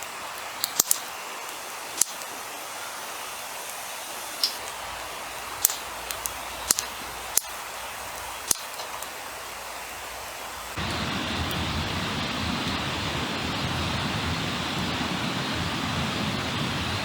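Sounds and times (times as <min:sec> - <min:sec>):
campfire crackling: 0:00.0 - 0:17.0
fire hiss: 0:00.0 - 0:17.0
sharp pops of fire: 0:00.0 - 0:17.0.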